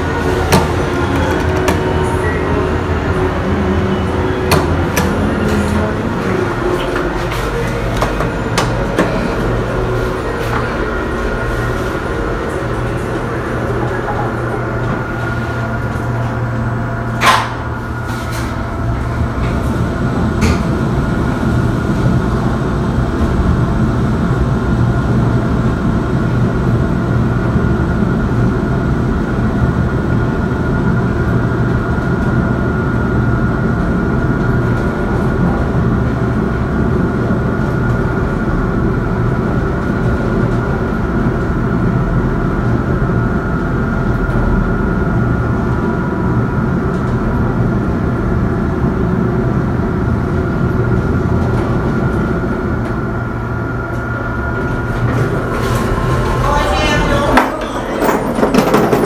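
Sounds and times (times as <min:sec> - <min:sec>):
elevator car rumbling: 0:00.0 - 0:59.0.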